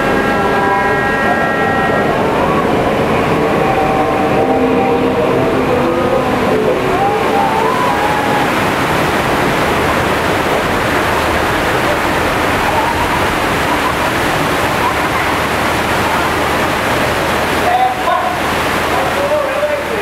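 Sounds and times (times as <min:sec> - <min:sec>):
faint wavering tones: 0:00.0 - 0:17.1
torrent of water rushing: 0:00.0 - 0:20.0.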